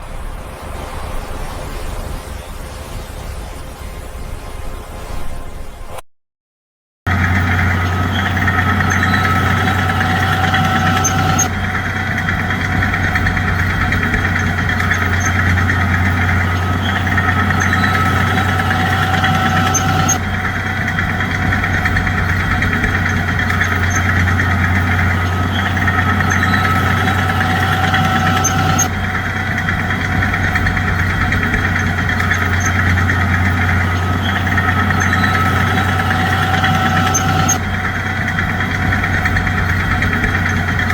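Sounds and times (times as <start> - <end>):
bulldozer diesel engine running: 7.1 - 40.9
thin high whine: 7.1 - 40.9.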